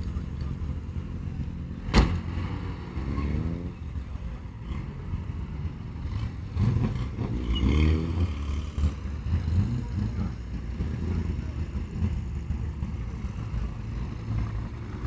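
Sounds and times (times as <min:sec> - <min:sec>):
car engines revving up: 0:00.0 - 0:15.0
steady engine rumble: 0:00.0 - 0:15.0.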